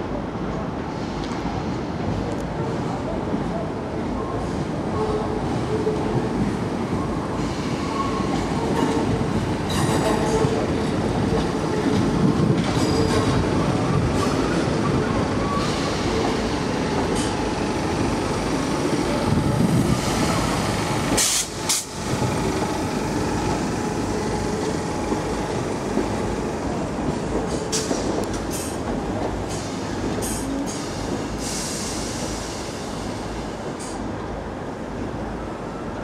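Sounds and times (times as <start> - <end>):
train wheels rumbling: 5.6 - 34.5.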